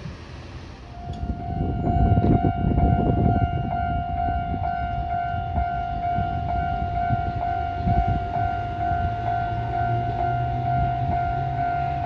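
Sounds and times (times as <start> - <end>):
train rumble: 0.0 - 12.0
level crossing warning bell: 0.8 - 12.0.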